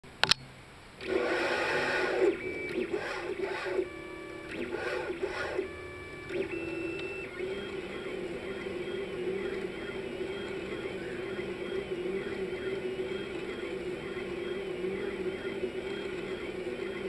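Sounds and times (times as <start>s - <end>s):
stepper motors singing: 1.0s - 17.0s.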